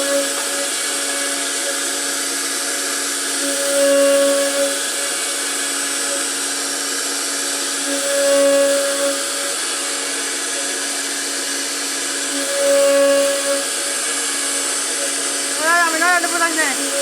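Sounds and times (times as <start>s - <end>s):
router spindle hissing: 0.0s - 17.0s.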